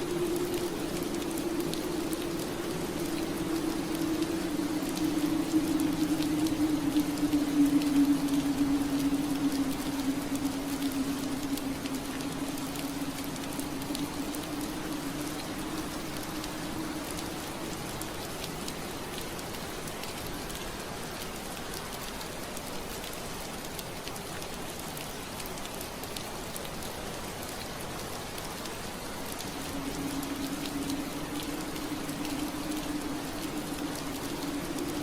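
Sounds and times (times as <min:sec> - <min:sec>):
rain on a window: 0:00.0 - 0:35.0.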